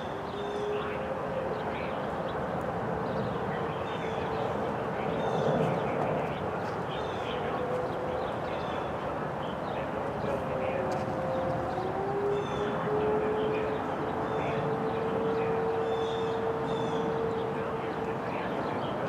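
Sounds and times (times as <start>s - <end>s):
birds chirping: 0.0s - 19.0s
distant warning sirens: 0.0s - 19.0s
steady outdoor hiss: 0.0s - 19.0s.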